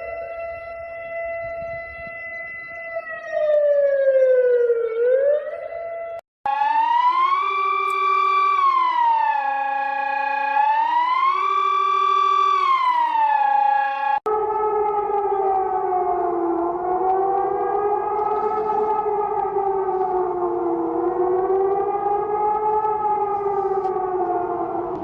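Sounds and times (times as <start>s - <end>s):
falling alarm tone: 0.0s - 25.0s
siren wailing: 0.0s - 25.0s.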